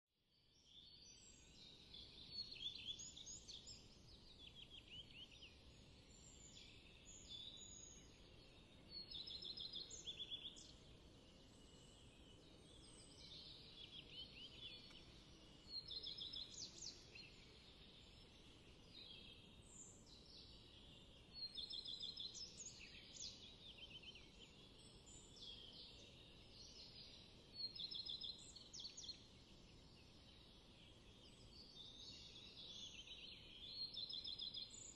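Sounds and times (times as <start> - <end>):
songbirds singing with trills: 0.3 - 34.9
low background hiss: 0.4 - 34.9.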